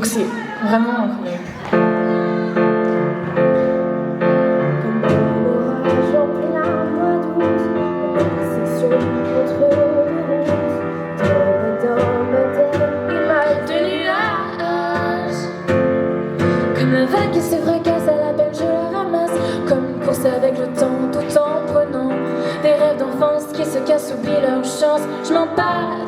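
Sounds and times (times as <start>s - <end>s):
piano chords and melody: 1.7s - 26.0s.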